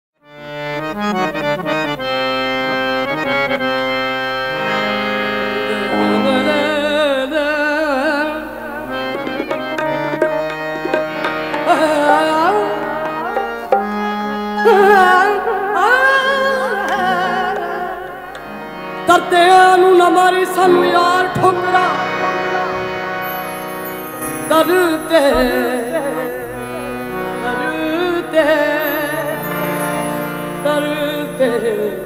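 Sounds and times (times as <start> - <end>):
harmonium chords and melody: 0.2 - 32.0
tabla: 4.4 - 32.0
person singing ornamented notes: 5.2 - 32.0.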